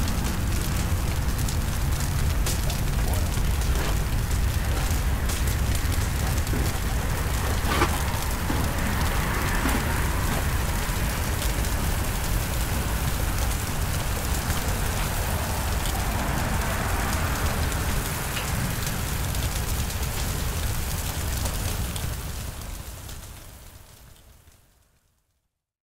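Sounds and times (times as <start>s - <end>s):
low rumble: 0.0s - 21.1s
sap boiling with bubbling hiss: 0.0s - 25.0s.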